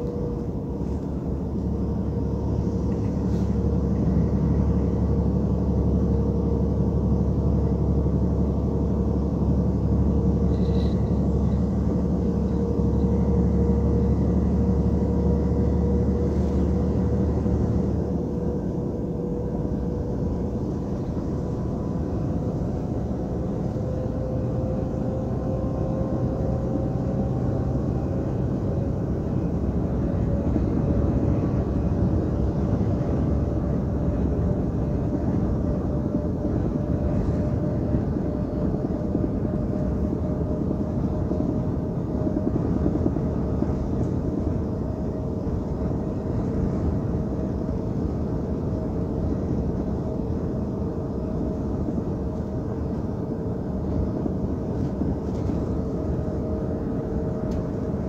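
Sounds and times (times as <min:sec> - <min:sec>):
faint whine: 0:00.0 - 0:58.0
road noise: 0:00.0 - 0:58.0
truck engine drone: 0:00.0 - 0:58.0.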